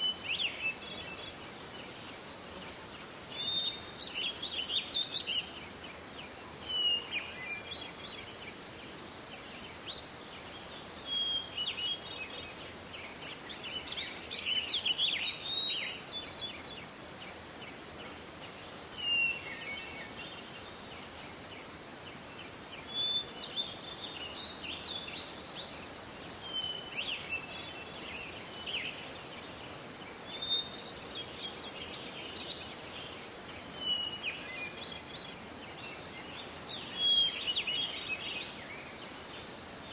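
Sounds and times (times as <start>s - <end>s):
songbirds chirping and trilling: 0.0s - 39.9s
steady background hiss: 0.0s - 39.9s.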